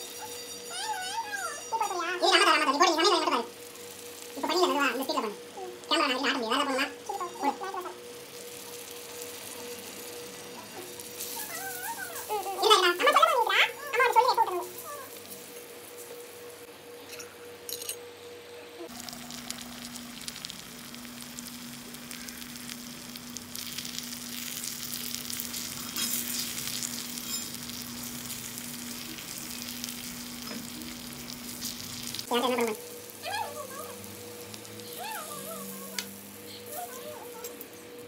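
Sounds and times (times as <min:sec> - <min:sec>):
food sizzling in oil: 0:00.0 - 0:16.7, 0:18.9 - 0:37.9.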